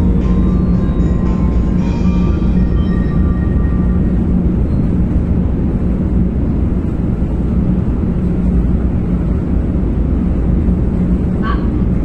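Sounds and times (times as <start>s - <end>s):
train interior rumble and hum: 0.0s - 12.0s.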